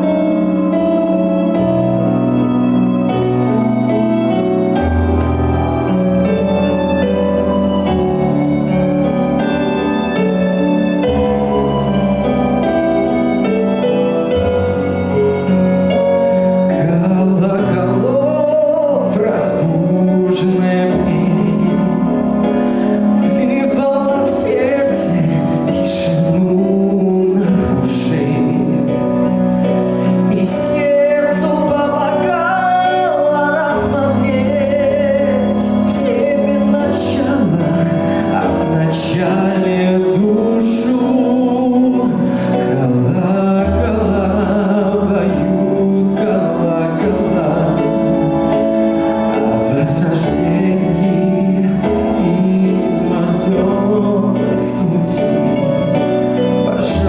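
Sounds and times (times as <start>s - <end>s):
song with instrumental accompaniment: 0.0s - 57.0s.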